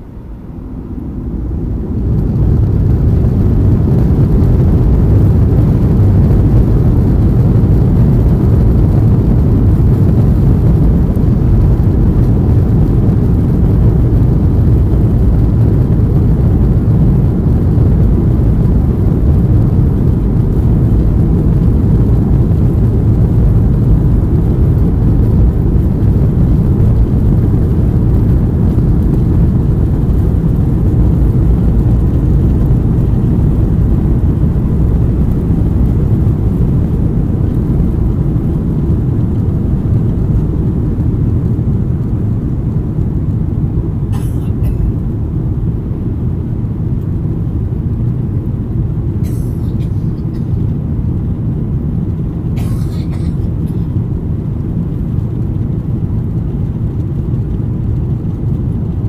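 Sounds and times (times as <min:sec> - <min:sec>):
jet engines roaring in cabin: 0:00.0 - 0:59.0.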